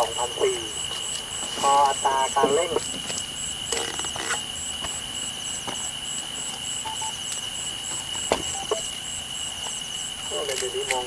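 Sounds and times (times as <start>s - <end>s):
insects chirping: 0.0s - 11.0s
insects trilling: 0.0s - 11.0s.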